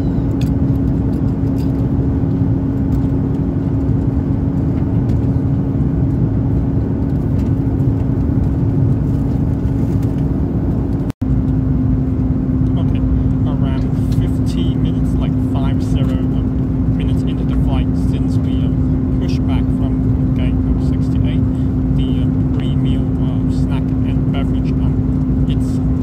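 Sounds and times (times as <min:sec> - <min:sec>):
airplane cabin noise: 0:00.0 - 0:26.0
constant low hum: 0:00.0 - 0:26.0.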